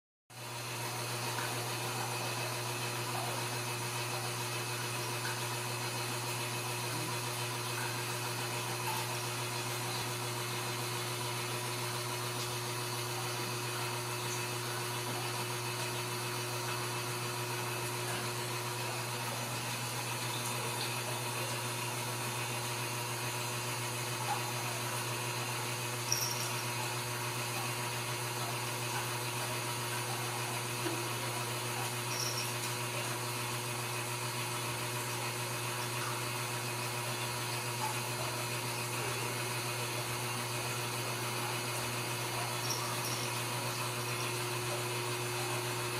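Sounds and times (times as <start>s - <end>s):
low machine hum with hiss: 0.4s - 45.9s.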